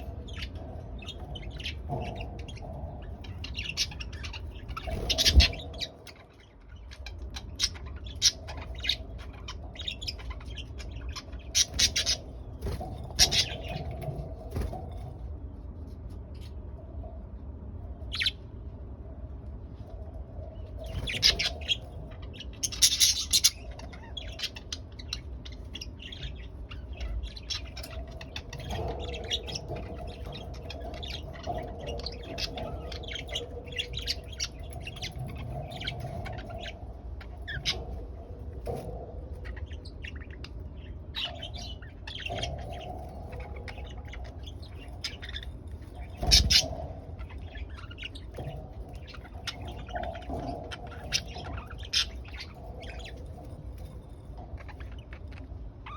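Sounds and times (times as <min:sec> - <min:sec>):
budgerigars chirping: 0:00.0 - 0:14.9, 0:20.6 - 0:55.9.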